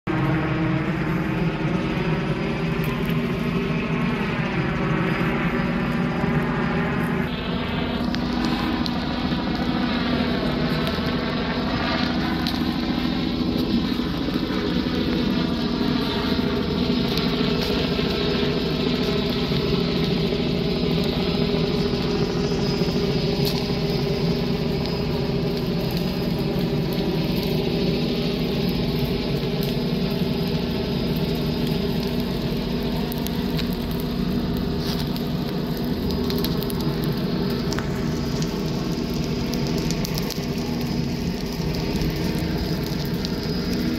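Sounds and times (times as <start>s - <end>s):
helicopter drone: 0.0s - 43.9s.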